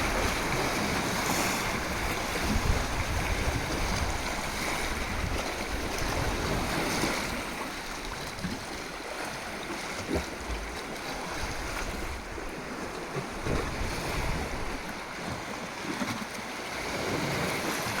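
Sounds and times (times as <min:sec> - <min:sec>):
ocean waves washing in: 0:00.0 - 0:08.1, 0:08.8 - 0:18.0
wind rumble on microphone: 0:00.0 - 0:09.0, 0:09.9 - 0:15.4.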